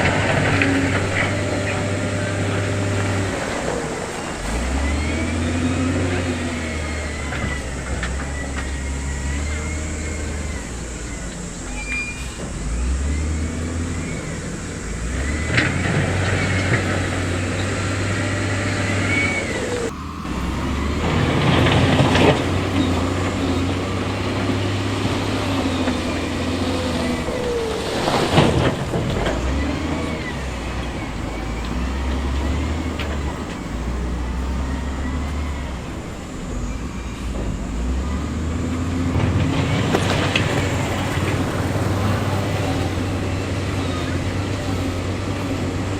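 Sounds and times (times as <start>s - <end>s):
heavy machine diesel engines: 0.0s - 45.9s
high wavering squeals: 0.0s - 45.9s.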